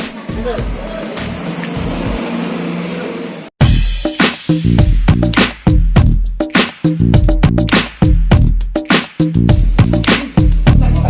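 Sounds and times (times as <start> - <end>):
music with bass and drums: 0.0 - 2.2, 3.6 - 11.0.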